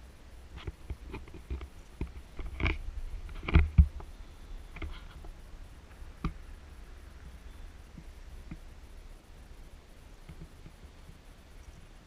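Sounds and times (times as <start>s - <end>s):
wind on microphone: 0.5s - 12.0s.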